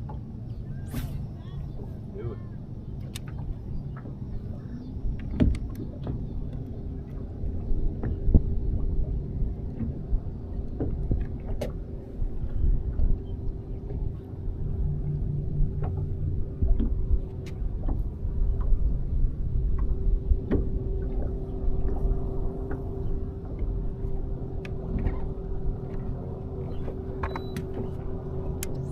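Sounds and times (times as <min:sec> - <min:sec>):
boat motor humming: 0:00.0 - 0:28.9.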